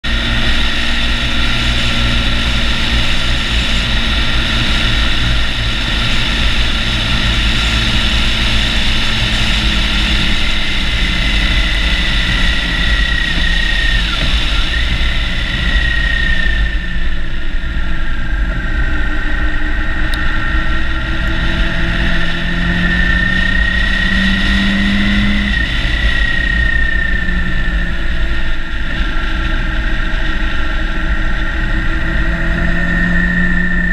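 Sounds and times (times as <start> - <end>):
engine whine changing pitch: 0.0 - 33.9
motorcycle engine running: 0.0 - 33.9.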